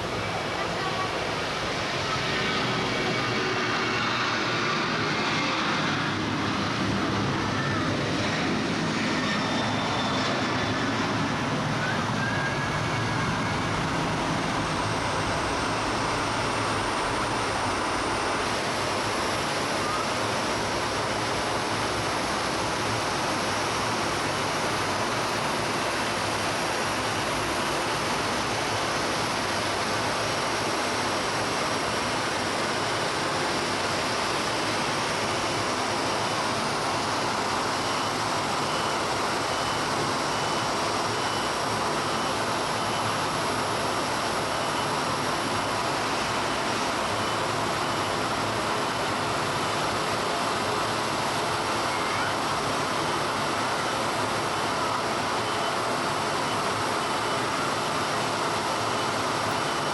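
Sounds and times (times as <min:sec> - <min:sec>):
high engine whine: 0:00.0 - 0:59.9
jet engines rushing: 0:00.0 - 0:59.9.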